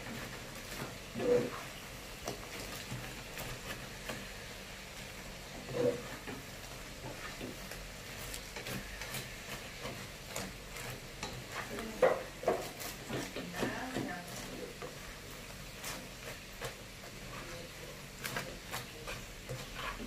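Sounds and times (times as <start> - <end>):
food sizzling in a pan: 0.0 - 20.0
stirring clicks: 0.1 - 20.0.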